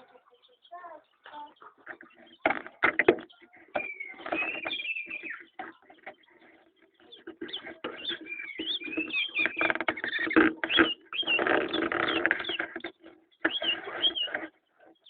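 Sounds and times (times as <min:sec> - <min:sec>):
bird chirping: 0:00.0 - 0:15.0
rustling and fluttering: 0:01.3 - 0:15.0.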